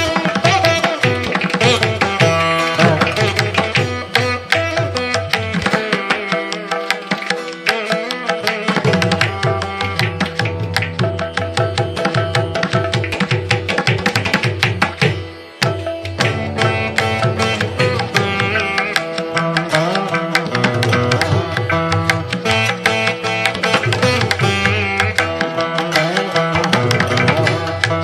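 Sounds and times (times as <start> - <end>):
indian classical instrumental music: 0.0 - 28.0
plucked-string melody: 0.0 - 28.0.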